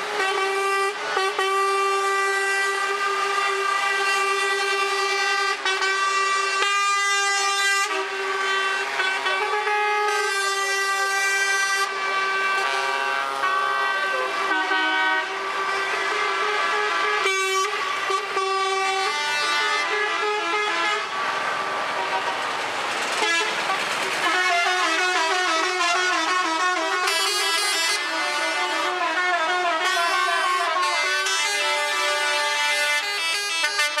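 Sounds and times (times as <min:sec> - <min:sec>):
truck horns honking: 0:00.0 - 0:34.0.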